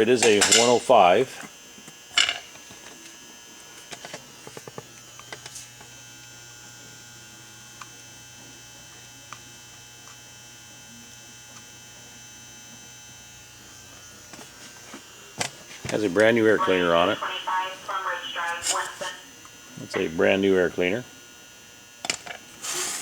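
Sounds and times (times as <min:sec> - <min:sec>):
electrical hum with high whine: 0:00.0 - 0:23.0.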